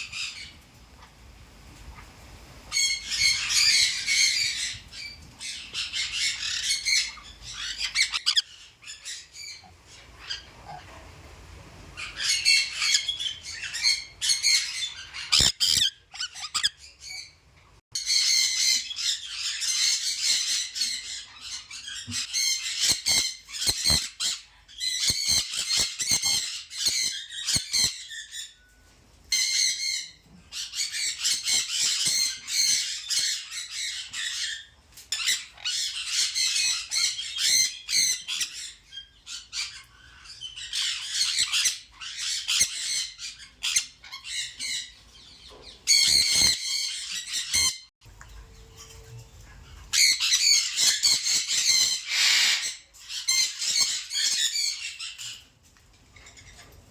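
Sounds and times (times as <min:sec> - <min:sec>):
birds calling: 0:02.7 - 0:10.9, 0:12.0 - 0:28.7, 0:29.3 - 0:55.5.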